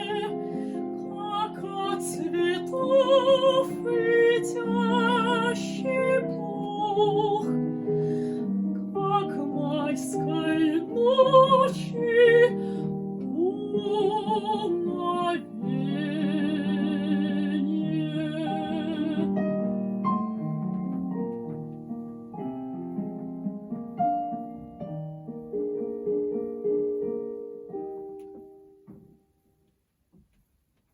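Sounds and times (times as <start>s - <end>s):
piano accompaniment: 0.0s - 30.6s.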